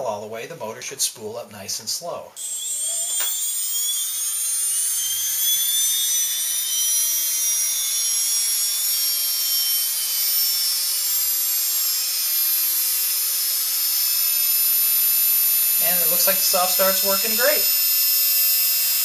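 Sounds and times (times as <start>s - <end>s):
electric motor whine rising in pitch: 2.4s - 19.0s.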